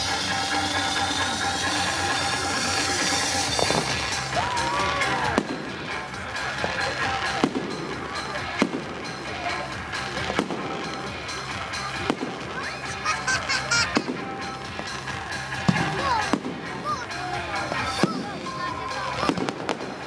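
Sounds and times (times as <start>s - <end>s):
fireworks crackling: 0.0s - 20.0s
fireworks shells bursting: 0.0s - 20.0s.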